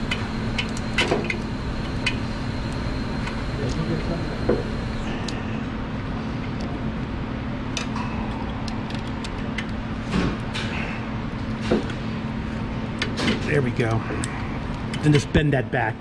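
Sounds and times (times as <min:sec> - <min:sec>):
shop background hum: 0:00.0 - 0:16.0.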